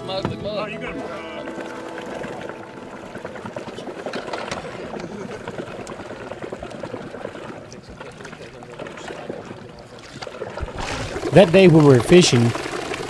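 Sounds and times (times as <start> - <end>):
boat motor running: 0.0 - 13.0
water churning and splashing: 0.0 - 13.0.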